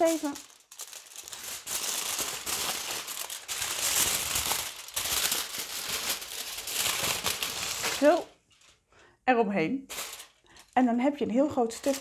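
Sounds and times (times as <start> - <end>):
aluminium foil crinkling: 0.0 - 8.9, 9.9 - 10.9, 11.6 - 12.0.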